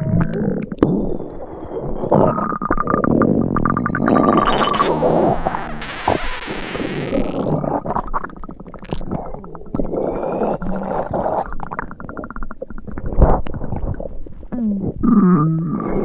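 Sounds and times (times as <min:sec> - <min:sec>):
stomach growling and gurgling: 0:00.0 - 0:16.0.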